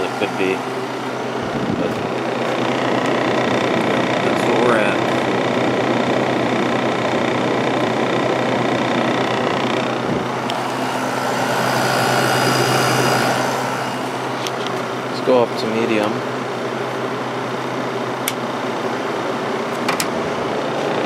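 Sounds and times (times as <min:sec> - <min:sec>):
air conditioner fan rushing: 0:00.0 - 0:21.0
low compressor hum: 0:00.0 - 0:21.0.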